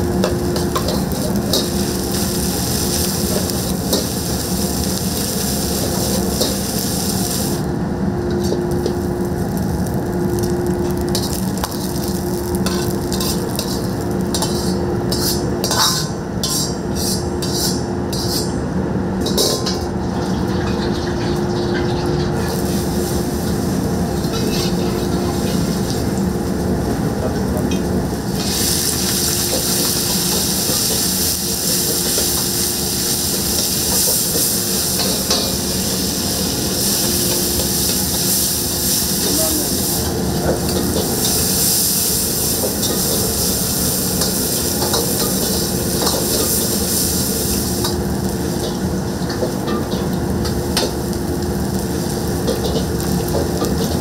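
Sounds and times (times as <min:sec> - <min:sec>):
rice sizzling in a wok: 0:00.0 - 0:54.0.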